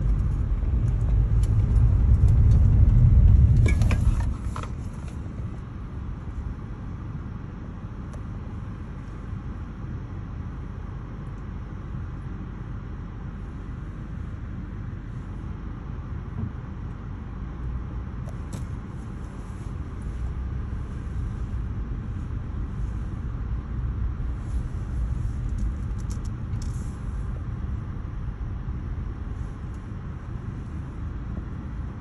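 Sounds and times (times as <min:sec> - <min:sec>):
engine and tyre rumble: 0:00.0 - 0:32.0.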